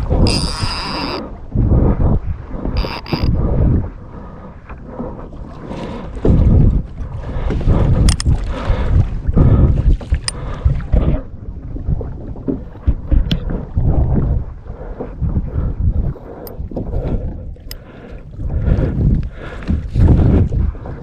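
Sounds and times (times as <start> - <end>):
water sloshing against kayak hull: 0.0 - 21.0
wind gusting on microphone: 0.0 - 21.0.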